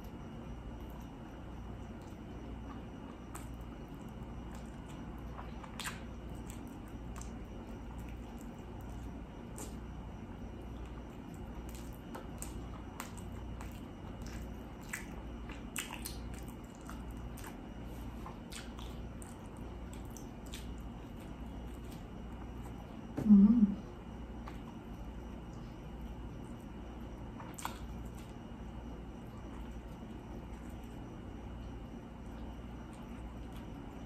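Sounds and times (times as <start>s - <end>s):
chewing food: 0.0s - 23.0s, 24.0s - 34.0s
low steady hum: 0.0s - 34.0s.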